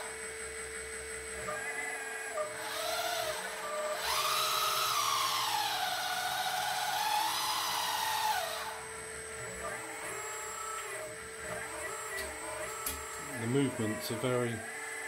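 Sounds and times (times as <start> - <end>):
electric hydraulic pump whining: 0.0 - 15.0.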